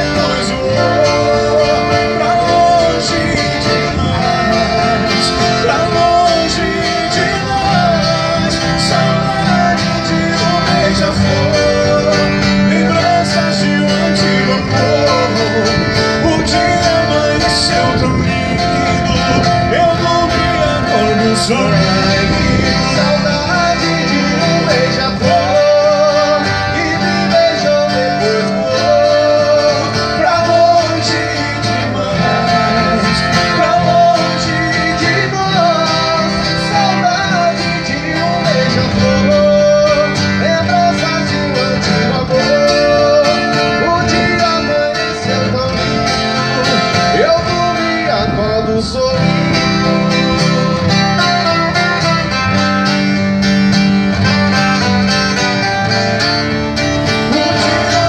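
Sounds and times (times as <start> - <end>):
acoustic guitars playing country music: 0.0 - 58.0.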